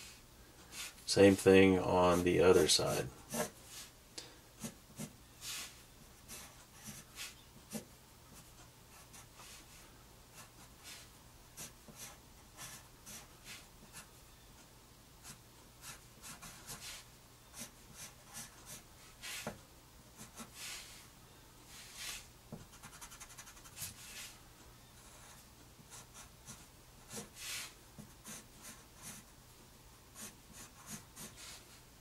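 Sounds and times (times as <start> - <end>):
pencil scratching on paper: 0.0 - 1.4, 2.0 - 3.9, 4.6 - 9.8, 10.4 - 14.1, 15.2 - 19.6, 20.2 - 21.1, 21.7 - 24.4, 25.0 - 29.3, 30.2 - 31.8.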